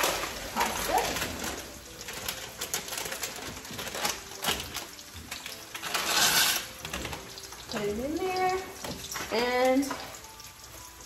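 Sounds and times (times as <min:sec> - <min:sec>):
running water: 0:00.0 - 0:11.0
utensils and cookware clicking: 0:00.0 - 0:11.0.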